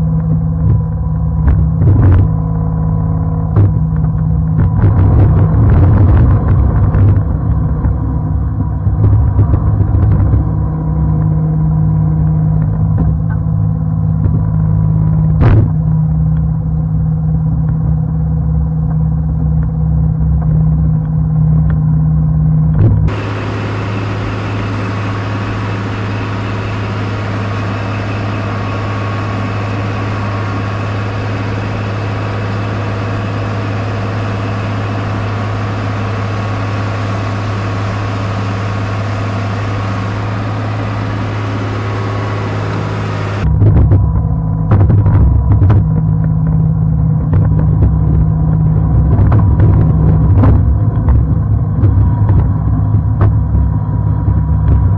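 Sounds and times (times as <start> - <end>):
snowcat engine running under load: 0.0 - 54.9.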